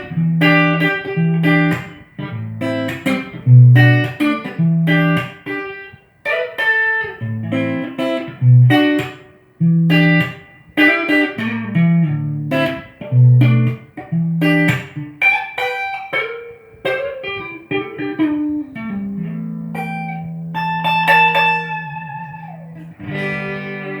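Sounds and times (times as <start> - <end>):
electric guitar playing: 0.0 - 24.0.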